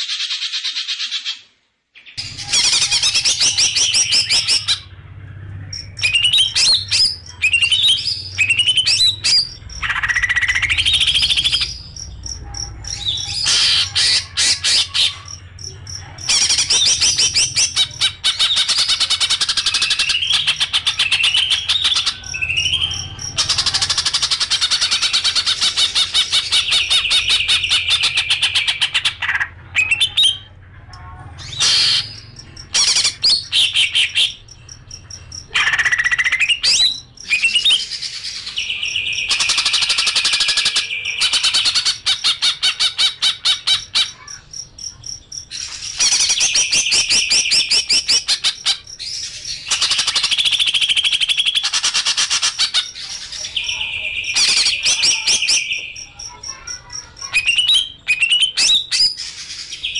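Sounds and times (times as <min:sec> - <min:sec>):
songbird singing trills: 0:02.0 - 0:59.9.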